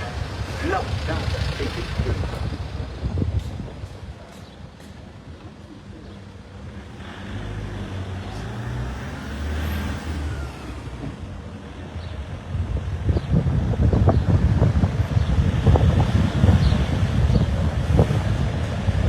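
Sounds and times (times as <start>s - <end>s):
tyre noise on road: 0.0s - 19.0s
vehicle engine hum: 0.0s - 19.0s
wind buffeting microphone: 0.0s - 19.0s.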